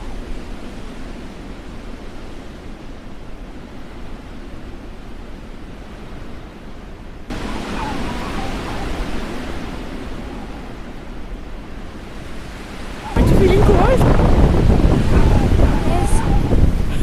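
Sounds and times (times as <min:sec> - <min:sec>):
wind rushing while driving: 0:00.0 - 0:17.0.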